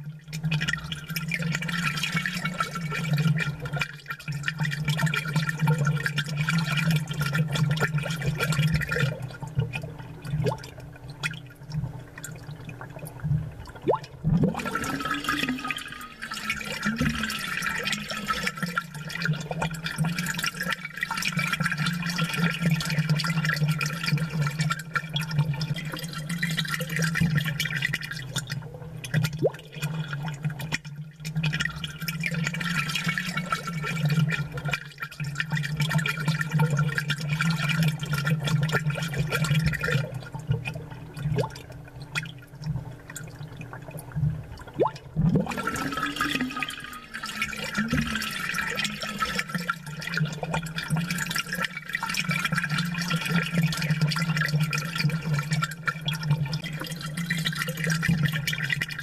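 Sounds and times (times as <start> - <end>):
aquarium bubbles gurgling: 0.0 - 59.0.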